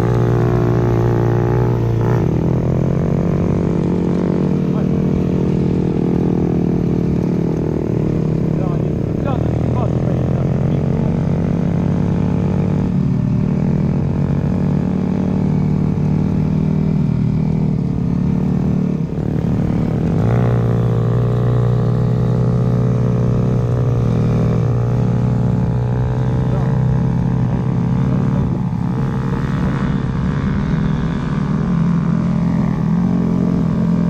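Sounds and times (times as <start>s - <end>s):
dirt bike engine running: 0.0s - 34.0s.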